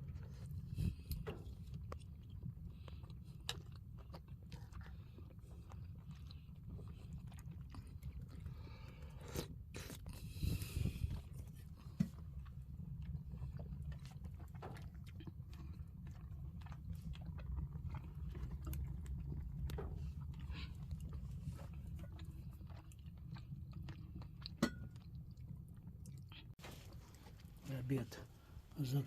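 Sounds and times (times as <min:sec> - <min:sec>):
low steady hum: 0:00.0 - 0:29.0
eating clicks and scrapes: 0:00.1 - 0:25.2
person chewing: 0:00.1 - 0:27.6.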